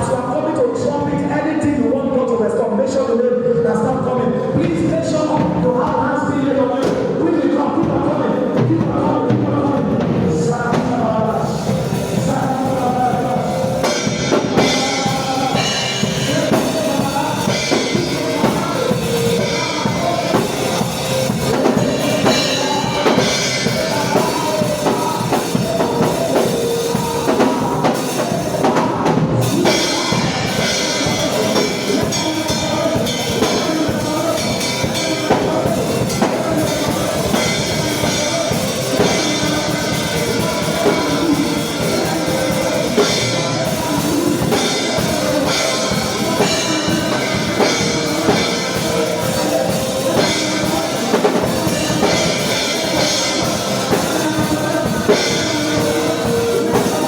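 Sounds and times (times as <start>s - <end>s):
band music: 3.3s - 57.0s
drum kit steady beat: 4.0s - 57.0s.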